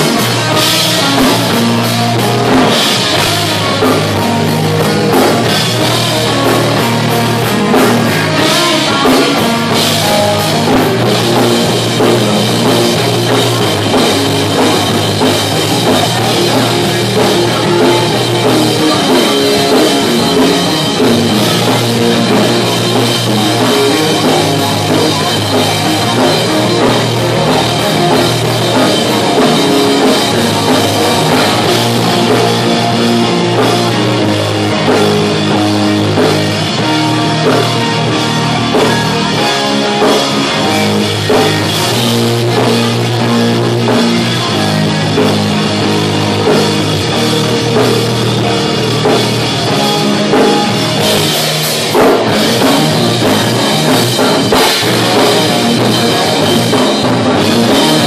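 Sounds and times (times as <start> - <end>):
drum kit: 0.0 - 58.0
guitar: 0.0 - 58.0
live rock band playing: 0.0 - 58.0.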